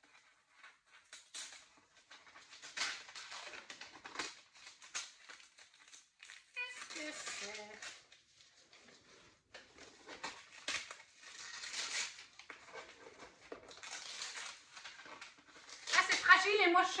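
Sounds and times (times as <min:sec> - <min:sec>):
packaging crinkling and tearing: 0:00.0 - 0:17.0.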